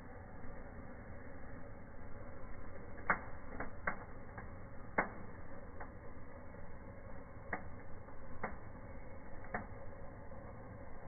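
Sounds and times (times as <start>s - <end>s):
steady low hiss: 0.0s - 11.0s
sparks crackling: 2.0s - 11.0s.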